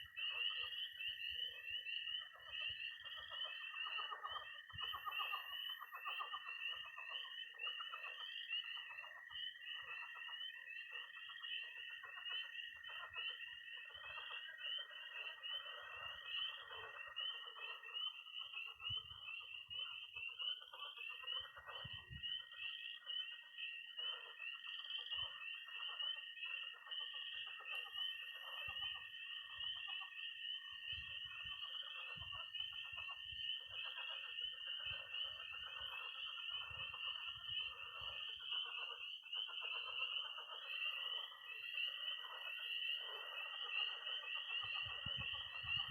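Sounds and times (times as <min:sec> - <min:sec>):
frogs croaking: 0:00.0 - 0:45.9
spring peepers peeping: 0:00.0 - 0:45.9
toads trilling: 0:00.0 - 0:45.9.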